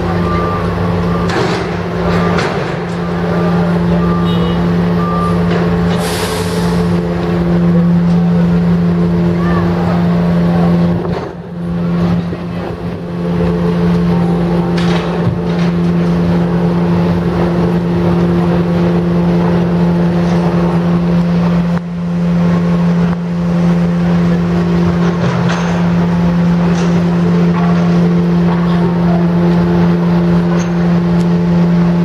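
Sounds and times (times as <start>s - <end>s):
diesel machinery droning: 0.0s - 32.0s.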